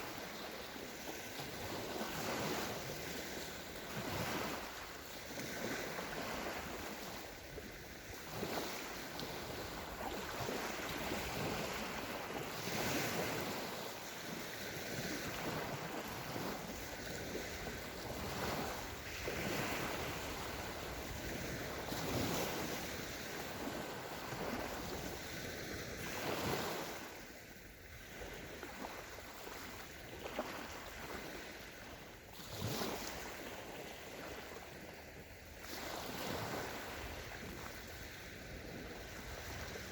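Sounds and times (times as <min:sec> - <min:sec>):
wind buffeting microphone: 0:00.0 - 0:27.1, 0:30.4 - 0:39.9
waves washing up shore: 0:00.0 - 0:39.9.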